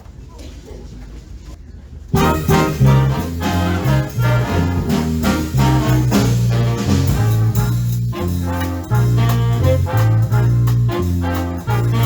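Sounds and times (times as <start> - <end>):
swing big band playing: 2.1 - 12.0.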